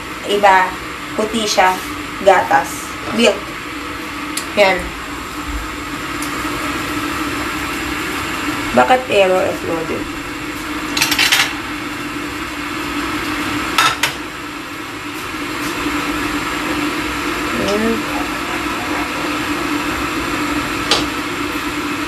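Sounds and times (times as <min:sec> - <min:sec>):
steady kitchen hum: 0:00.0 - 0:22.0.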